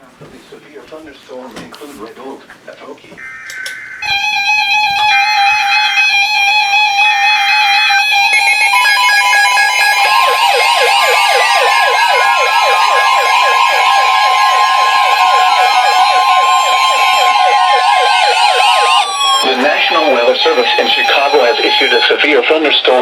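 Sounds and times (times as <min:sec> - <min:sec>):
siren-like falling whoop: 0:03.2 - 0:22.2
steady high tone: 0:03.2 - 0:22.4
weather radio alert tone beeping: 0:03.2 - 0:23.0.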